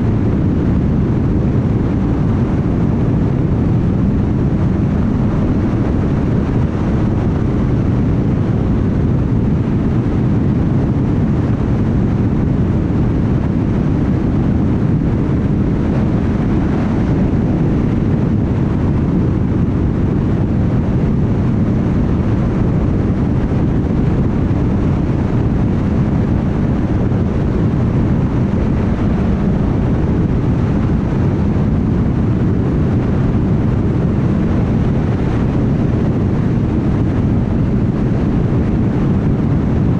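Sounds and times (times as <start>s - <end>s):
wind noise: 0.0s - 39.9s.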